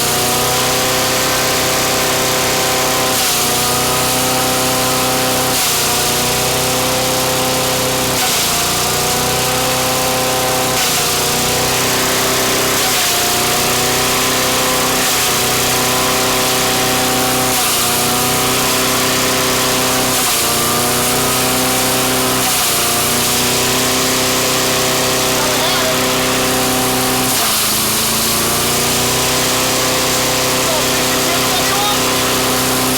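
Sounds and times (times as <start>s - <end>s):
shredder engine bogging: 0.0s - 32.9s.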